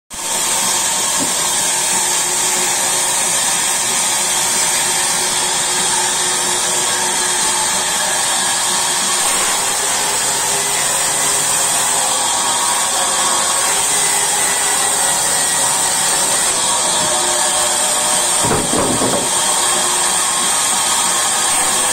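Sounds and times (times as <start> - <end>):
band saw whirring: 0.1 - 21.9.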